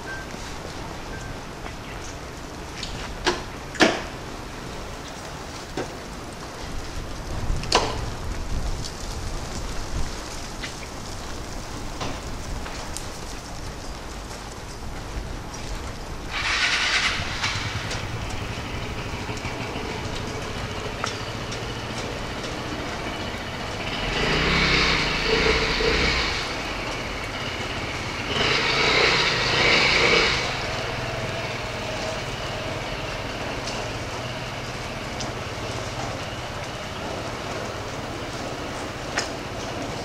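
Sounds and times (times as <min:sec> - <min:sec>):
vehicles passing on snowy road: 0:00.0 - 0:40.0.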